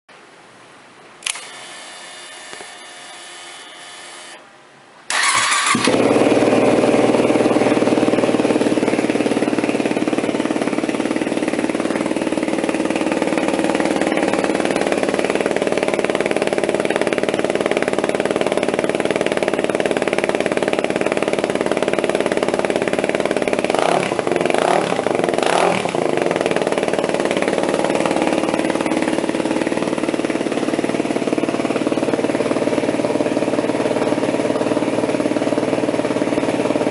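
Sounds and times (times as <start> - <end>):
motorcycle engine starting: 1.2 - 4.4, 5.1 - 36.9
motorcycle engine idling: 5.1 - 36.9
motorcycle engine revving: 5.1 - 36.9.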